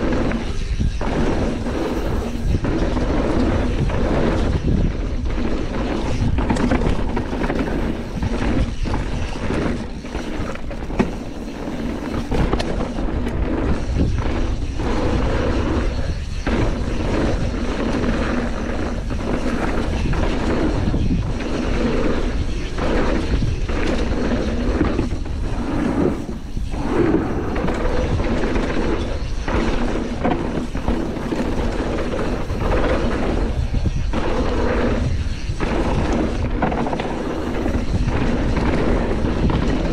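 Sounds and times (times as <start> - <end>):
bike knocking and rattling: 0.0 - 39.9
wind and tyre rumble: 0.0 - 39.9.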